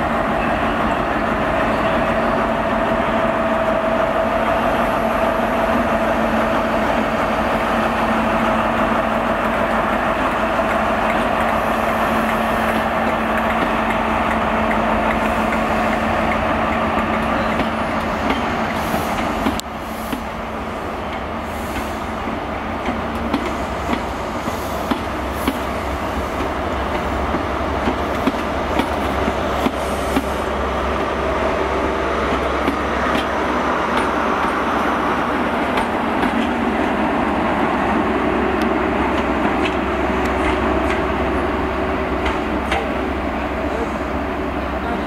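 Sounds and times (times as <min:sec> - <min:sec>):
train coaches rumbling over rails: 0:00.0 - 0:45.0.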